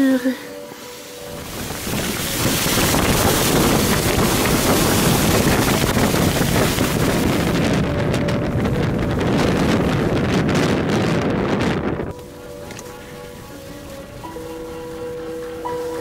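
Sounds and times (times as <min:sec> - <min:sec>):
strong wind buffeting: 0:00.5 - 0:16.0.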